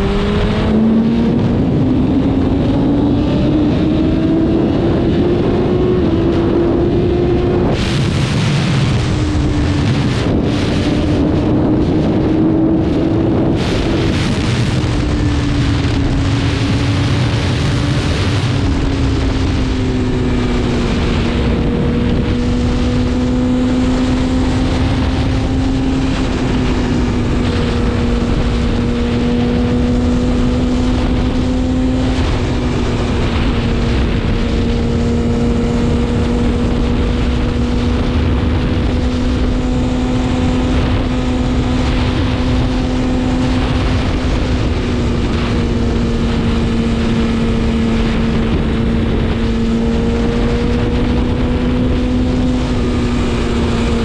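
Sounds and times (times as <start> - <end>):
motorcycle engine at high revs: 0.0 - 54.0
wind noise on microphone: 0.0 - 54.0.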